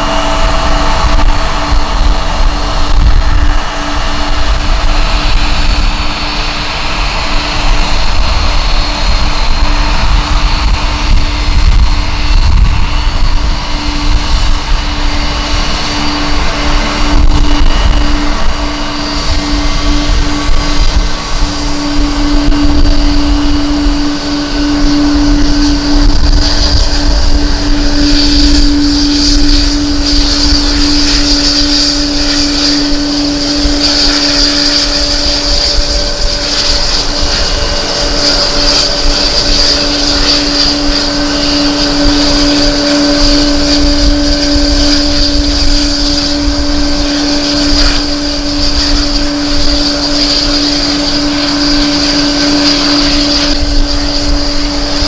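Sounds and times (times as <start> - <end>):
airliner engines whining: 0.0 - 55.0
wind on microphone: 0.0 - 55.0.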